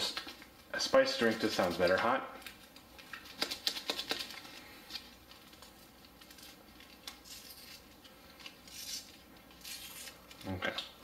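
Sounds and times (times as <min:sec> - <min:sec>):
packet rustling and crinkling: 0:00.0 - 0:09.1.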